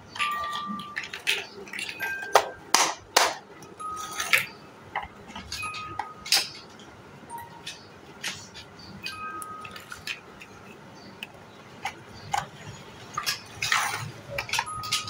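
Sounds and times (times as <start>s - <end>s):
plastic blocks clacking together: 0.1s - 6.9s, 7.6s - 15.0s.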